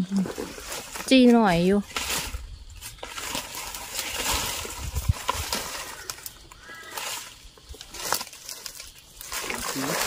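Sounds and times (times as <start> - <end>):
dry leaves rustling and crackling: 0.0 - 10.0.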